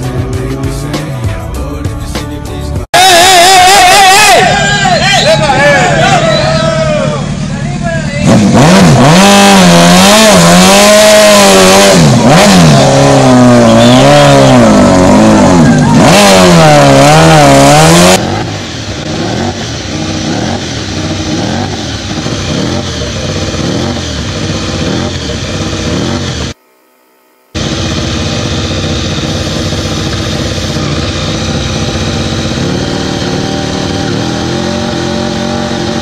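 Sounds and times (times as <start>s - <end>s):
racing motorcycle engine blips: 0.0s - 36.0s
motorcycle engine revving hard: 3.0s - 26.6s, 27.6s - 36.0s.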